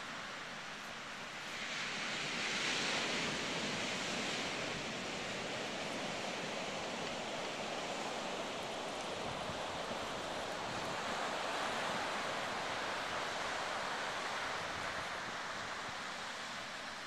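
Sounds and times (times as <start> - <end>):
ocean surf on sandy beach: 0.0 - 17.0.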